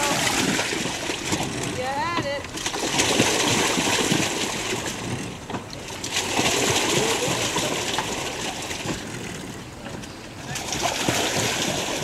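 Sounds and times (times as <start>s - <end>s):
water splashing around boat: 0.0s - 12.0s.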